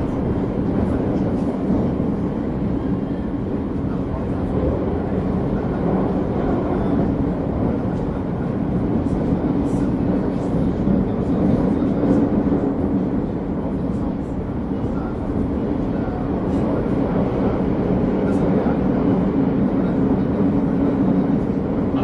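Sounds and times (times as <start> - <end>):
train running in tunnel: 0.0 - 22.0.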